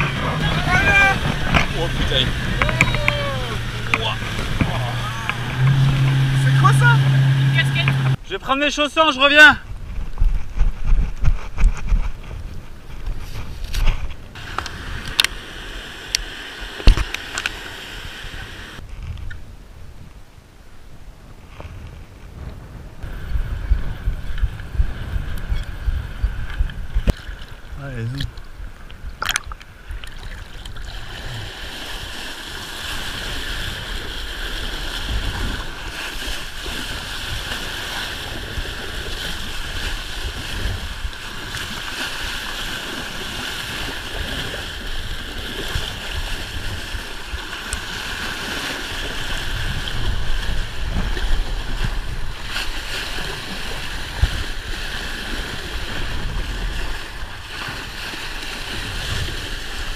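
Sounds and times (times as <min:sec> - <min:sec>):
wind buffeting microphone: 0:00.0 - 0:08.2, 0:09.6 - 0:15.4, 0:18.0 - 0:32.2, 0:32.8 - 0:59.9
water rushing along a board: 0:00.0 - 0:19.3, 0:21.4 - 0:59.9.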